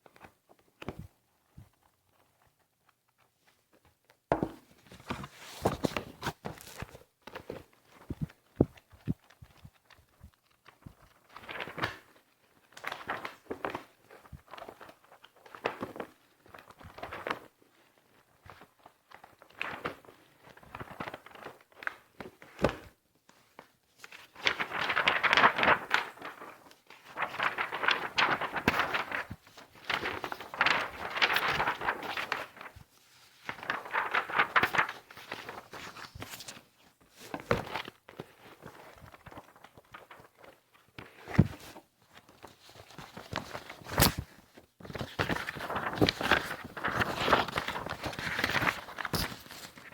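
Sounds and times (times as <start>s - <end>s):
paper rustling and crinkling: 0.1s - 49.9s.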